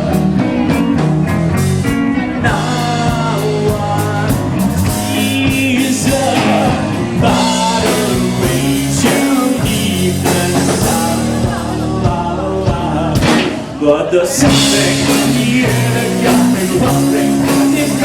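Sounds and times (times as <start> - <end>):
drums: 0.0 - 18.0
electric guitar: 0.0 - 18.0
live rock band playing: 0.0 - 18.0
person singing: 1.9 - 18.0.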